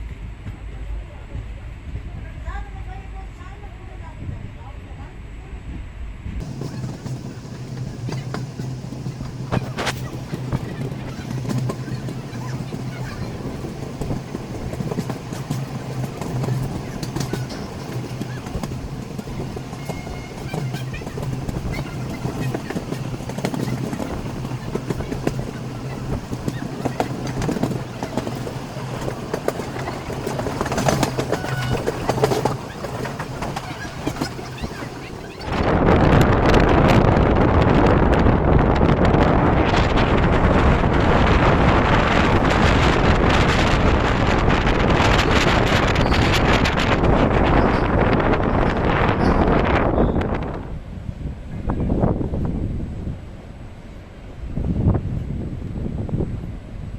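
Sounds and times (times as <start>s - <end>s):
train running hum: 0.0s - 56.9s.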